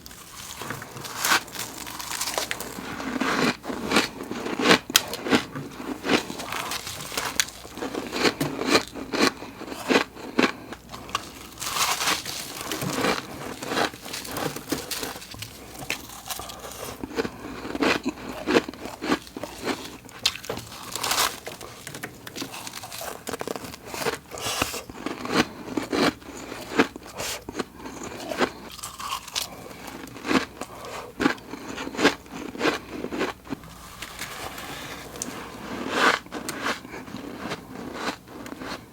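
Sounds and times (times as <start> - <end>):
chewing crunchy frost: 0.0 - 38.9.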